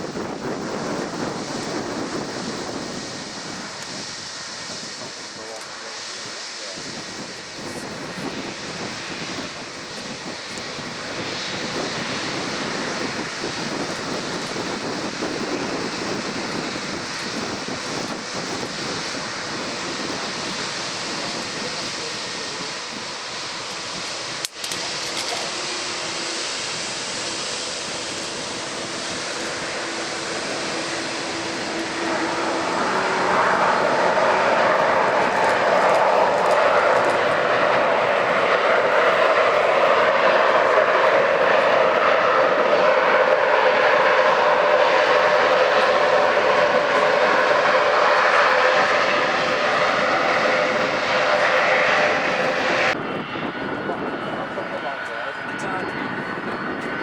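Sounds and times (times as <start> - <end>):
aircraft engines running: 0.0 - 57.0.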